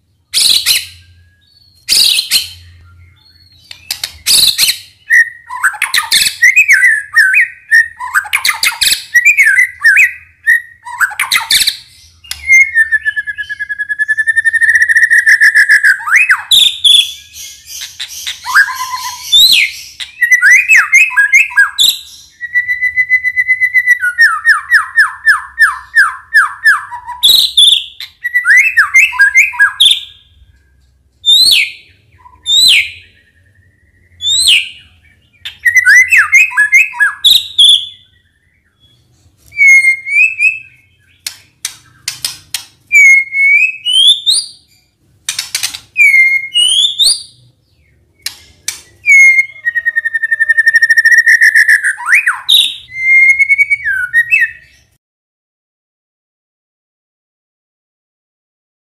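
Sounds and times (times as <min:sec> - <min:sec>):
bird singing whistles and trills: 0:00.2 - 0:55.0.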